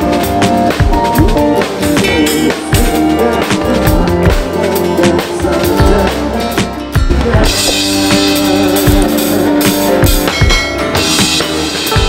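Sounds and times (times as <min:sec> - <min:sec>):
drum kit played hard: 0:00.0 - 0:12.0
sustained band instrument notes: 0:00.0 - 0:12.0.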